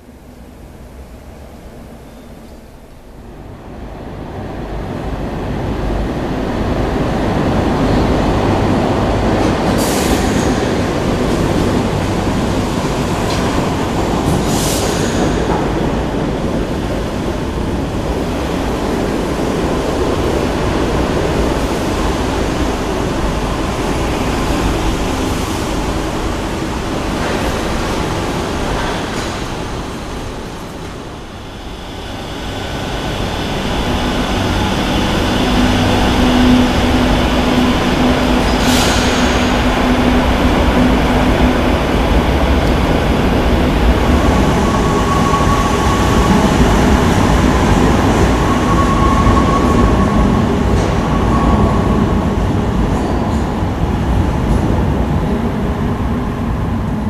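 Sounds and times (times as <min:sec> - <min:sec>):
train rumbling along platform: 0:00.0 - 0:57.0.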